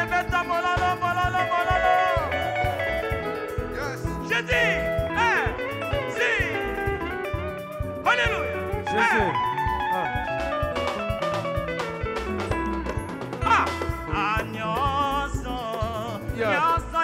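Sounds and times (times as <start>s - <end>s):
guitar notes sliding down: 0.0s - 15.6s
live gospel band: 0.0s - 17.0s.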